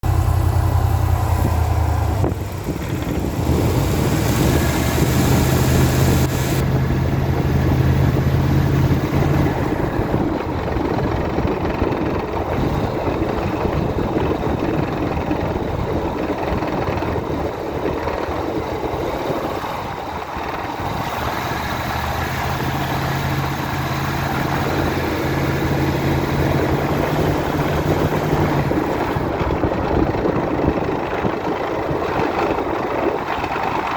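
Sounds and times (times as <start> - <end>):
van engine low drone: 0.0 - 33.9.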